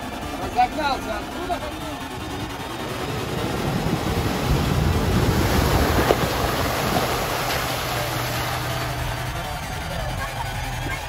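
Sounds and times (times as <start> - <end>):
car engine running: 0.0 - 11.0
water splashing around tyres: 0.0 - 11.0.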